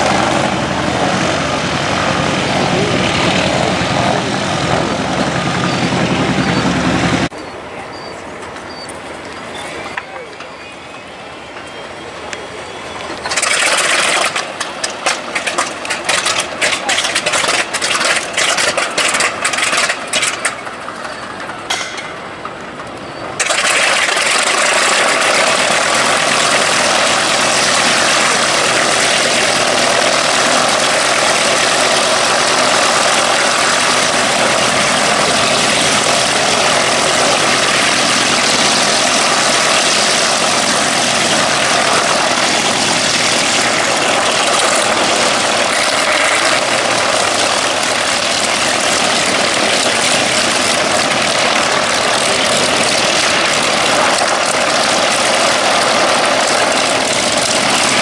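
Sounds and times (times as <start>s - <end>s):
radial aircraft engine running: 0.0s - 58.0s.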